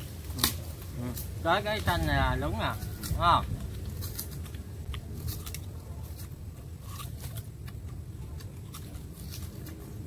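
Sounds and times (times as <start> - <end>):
low steady rumble: 0.0 - 10.0
sugarcane crunching in teeth: 0.0 - 10.0.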